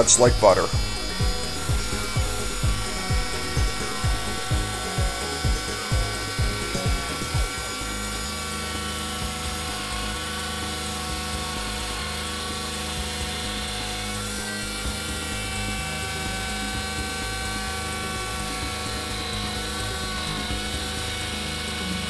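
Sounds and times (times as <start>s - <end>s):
music beat of low thumps: 0.0s - 22.0s
router high whine: 0.0s - 22.0s.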